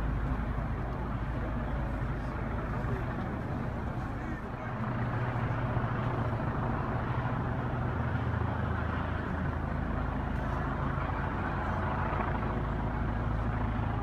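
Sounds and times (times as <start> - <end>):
idling vehicle engines: 0.0 - 14.0
noisy street din: 0.0 - 14.0.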